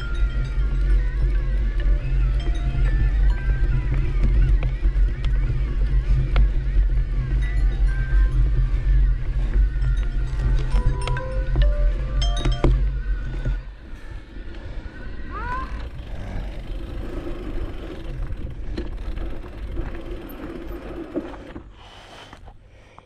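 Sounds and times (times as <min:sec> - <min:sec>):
motorcycle engines running: 0:00.0 - 0:21.7.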